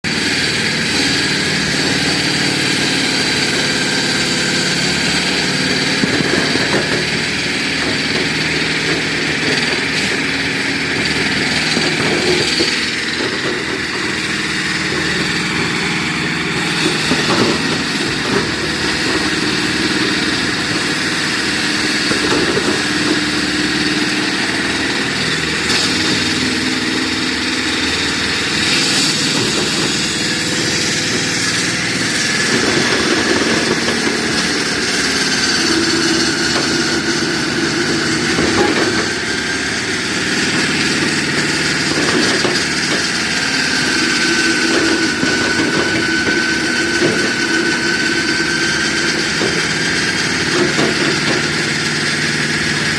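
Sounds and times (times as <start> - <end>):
concrete cutting saw running: 0.0 - 52.9.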